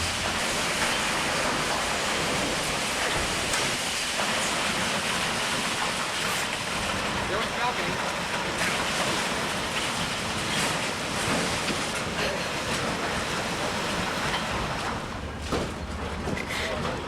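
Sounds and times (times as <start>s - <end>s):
building demolition machinery rumbling: 0.0s - 17.0s.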